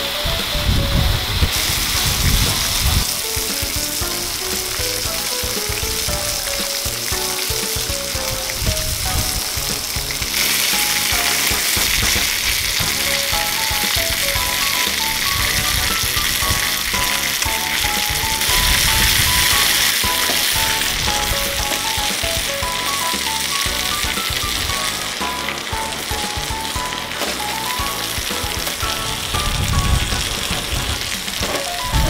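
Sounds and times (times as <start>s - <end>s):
steaks sizzling in a skillet: 1.3s - 32.0s.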